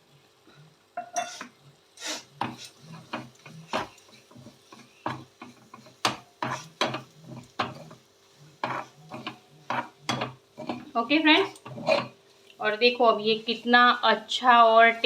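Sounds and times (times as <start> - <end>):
spatula scraping a pan: 0.6 - 12.2, 12.8 - 14.0, 14.8 - 15.0.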